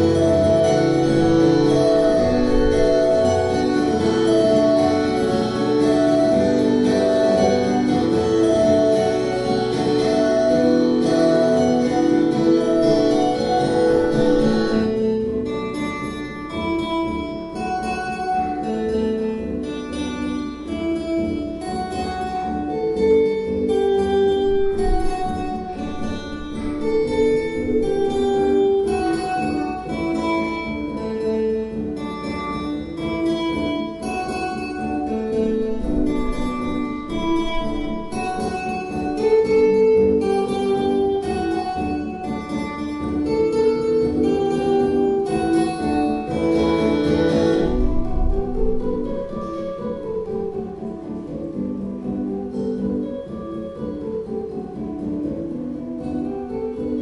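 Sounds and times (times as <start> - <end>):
acoustic guitar duet: 0.0 - 57.0.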